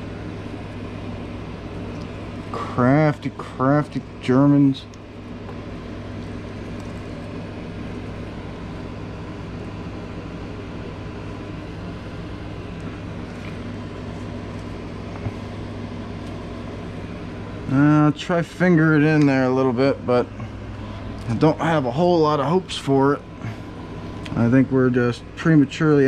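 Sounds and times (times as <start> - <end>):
machine hum with whoosh: 0.0 - 26.0.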